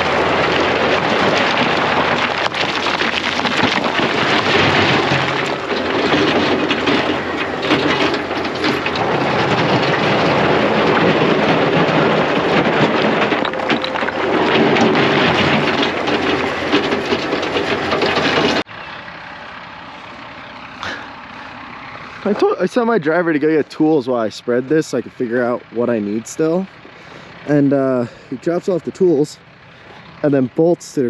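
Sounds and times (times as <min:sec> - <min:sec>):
dense clatter: 0:00.0 - 0:18.7, 0:20.8 - 0:30.7
heavy equipment engine under load: 0:00.0 - 0:31.0.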